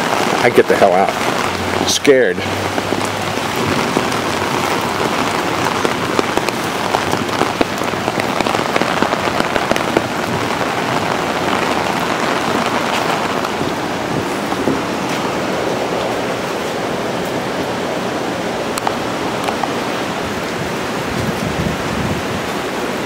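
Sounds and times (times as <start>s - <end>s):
heavy rain falling: 0.0s - 23.0s
sharp raindrop patters: 0.0s - 23.0s.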